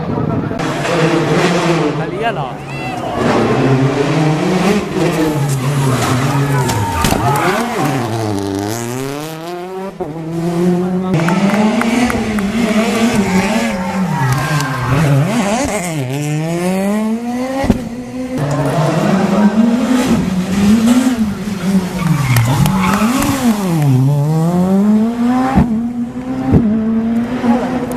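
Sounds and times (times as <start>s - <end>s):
rally car engine revving hard: 0.6s - 2.4s, 3.1s - 27.9s.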